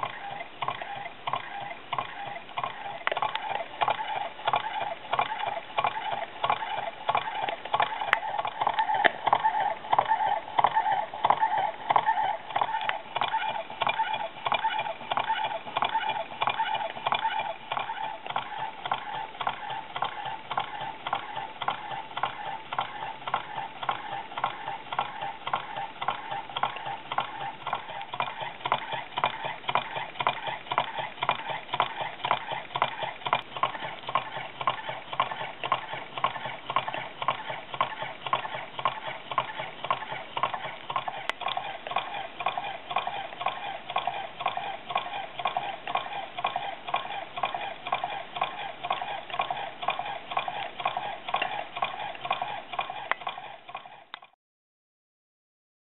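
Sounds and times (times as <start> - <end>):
engine linkage clicking: 0.0 - 54.4.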